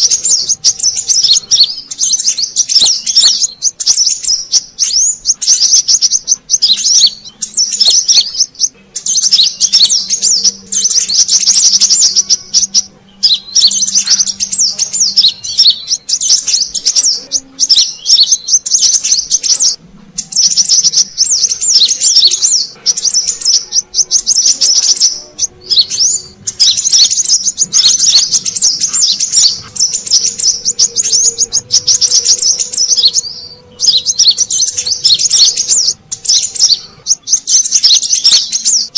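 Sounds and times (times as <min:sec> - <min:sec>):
high twittering bird chirps: 0:00.0 - 0:38.9.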